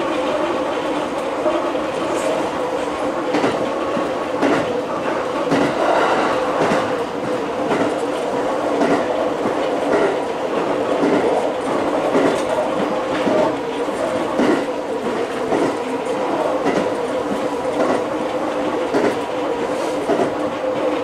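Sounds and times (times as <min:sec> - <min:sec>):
train running noise: 0:00.0 - 0:21.0.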